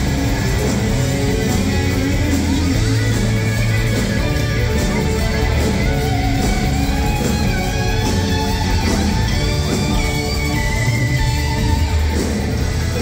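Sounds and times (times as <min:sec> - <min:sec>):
electric guitar lead: 0:00.0 - 0:13.0
live rock band playing: 0:00.0 - 0:13.0.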